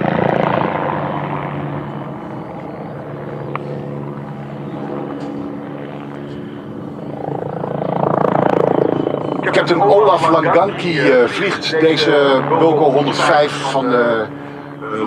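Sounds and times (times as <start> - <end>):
helicopter drone overhead: 0.0 - 15.0.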